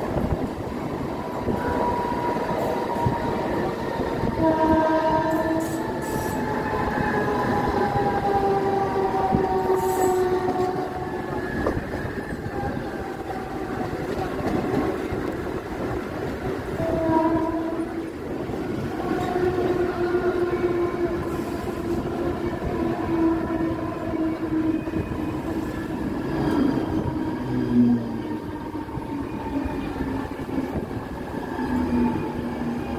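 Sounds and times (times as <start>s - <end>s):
electric train humming whine: 0.0s - 32.9s
train wheels rumbling on track: 0.0s - 32.9s.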